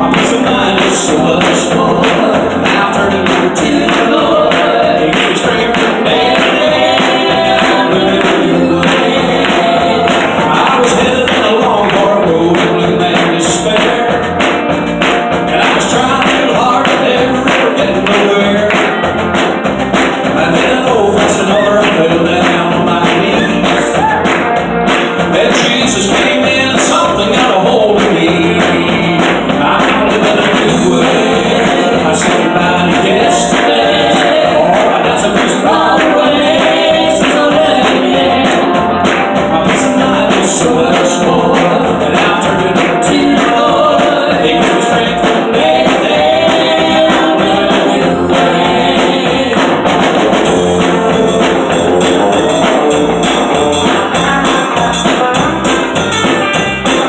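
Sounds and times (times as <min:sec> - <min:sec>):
gospel band playing with singing: 0:00.0 - 0:57.0.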